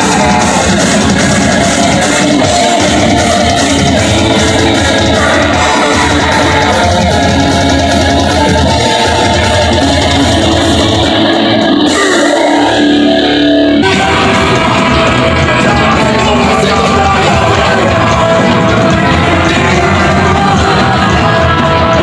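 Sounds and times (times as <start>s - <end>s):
bass guitar: 0.0s - 22.0s
distorted electric guitars: 0.0s - 22.0s
drum kit: 0.0s - 22.0s.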